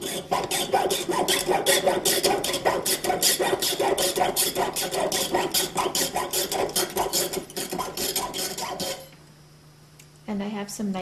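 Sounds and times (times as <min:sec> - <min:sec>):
saw blade rasping through wire: 0:00.0 - 0:09.1.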